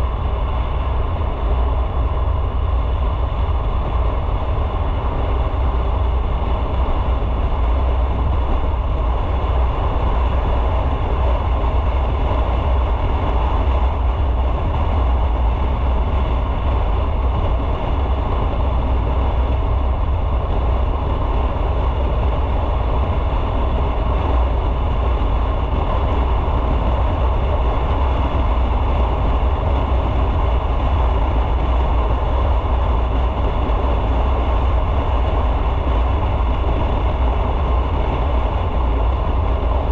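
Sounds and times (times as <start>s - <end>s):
road noise: 0.0s - 39.9s
wind noise: 0.0s - 39.9s.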